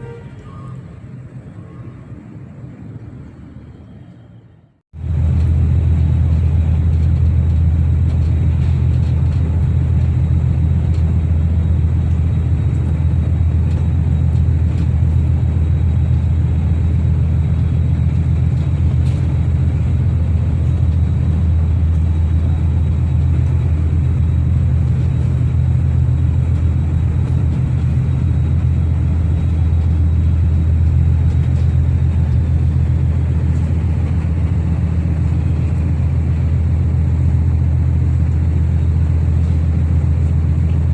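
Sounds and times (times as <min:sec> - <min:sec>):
diesel engines droning: 0:00.0 - 0:40.9.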